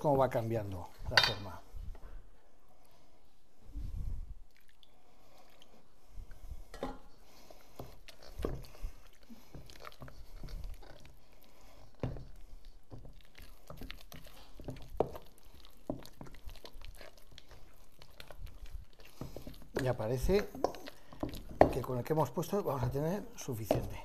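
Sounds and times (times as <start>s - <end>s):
wet squishing of paste: 3.6s - 24.0s.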